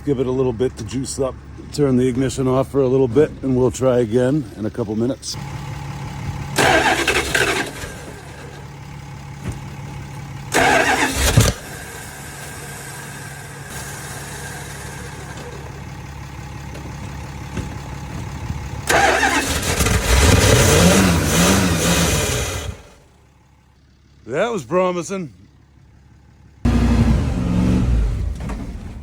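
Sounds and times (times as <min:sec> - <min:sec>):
truck engine cranking: 0:00.0 - 0:23.6, 0:26.6 - 0:29.0.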